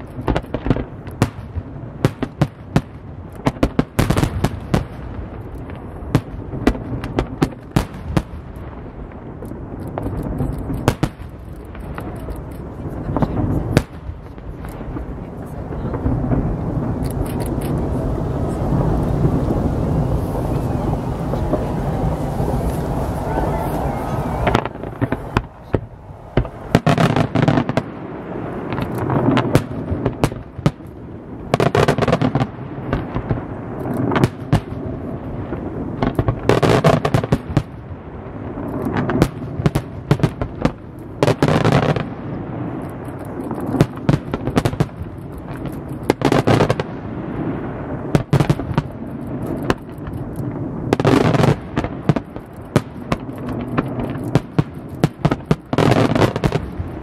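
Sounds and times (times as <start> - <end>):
fireworks bursting with sharp bangs: 0.0 - 57.0.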